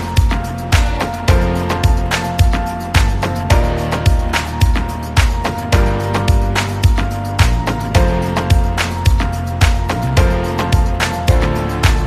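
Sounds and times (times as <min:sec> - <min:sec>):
steady drum beat: 0:00.0 - 0:12.0.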